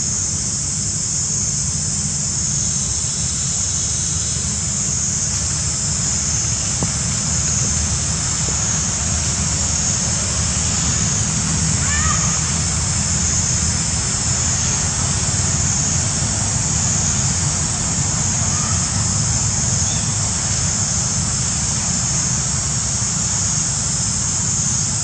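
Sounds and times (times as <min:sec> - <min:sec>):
high hiss: 0:00.0 - 0:25.0.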